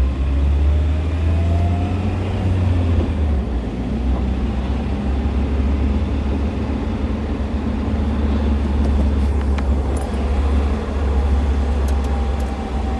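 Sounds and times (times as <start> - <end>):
car engine droning: 0.0 - 12.9.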